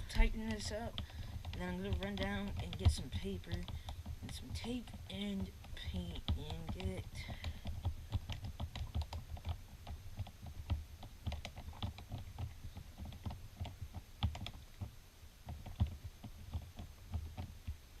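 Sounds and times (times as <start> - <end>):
light clicking and tapping on plastic: 0.0 - 17.8.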